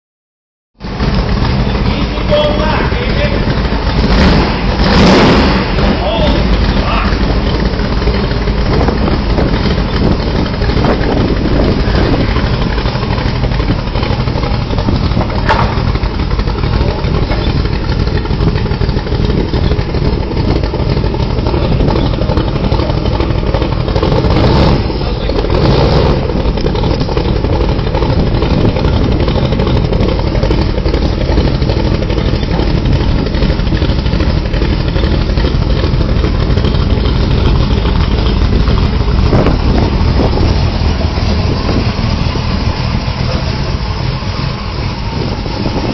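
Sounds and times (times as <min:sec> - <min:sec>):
car exhaust note: 0:00.8 - 0:45.9.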